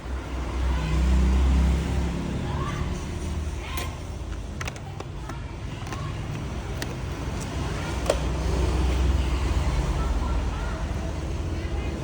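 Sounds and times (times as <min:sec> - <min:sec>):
engines and road traffic rumble: 0:00.0 - 0:12.0.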